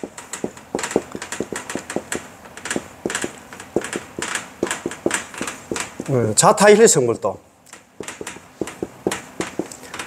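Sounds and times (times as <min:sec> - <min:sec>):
marker writing on whiteboard: 0:00.0 - 0:06.2, 0:08.0 - 0:09.9.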